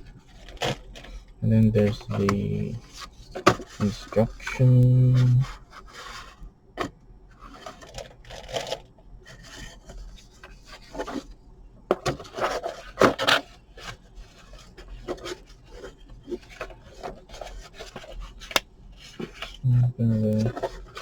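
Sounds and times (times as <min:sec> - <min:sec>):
paper and plastic packaging rustling: 0:00.1 - 0:06.4, 0:07.3 - 0:11.3, 0:11.9 - 0:21.0.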